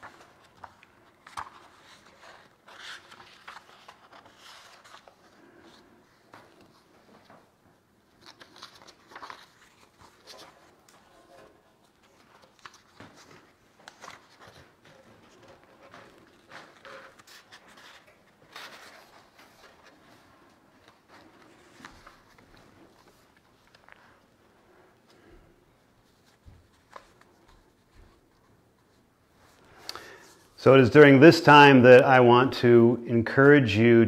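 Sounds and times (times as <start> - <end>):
paper pages rustling and flapping: 0.0 - 24.4, 26.0 - 29.9.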